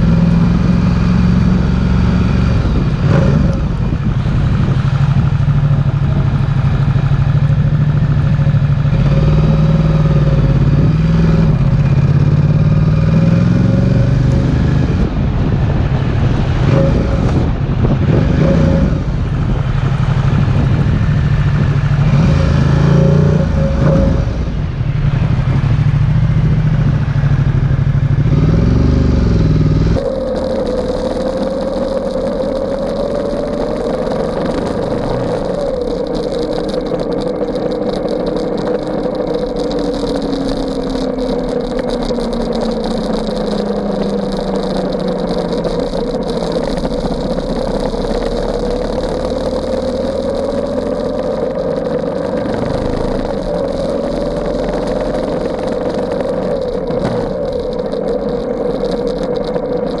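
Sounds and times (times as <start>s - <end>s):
low tone: 0.0s - 60.0s
motorcycle engine droning: 0.0s - 60.0s.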